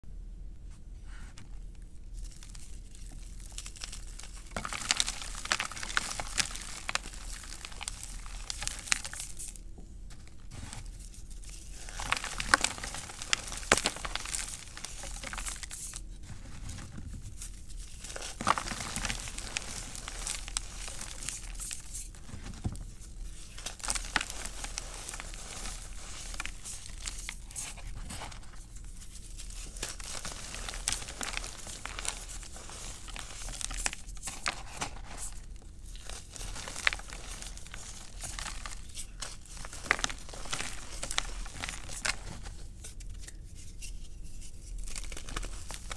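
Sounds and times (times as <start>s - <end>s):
hands crushing chalk into powder: 1.1s - 45.9s.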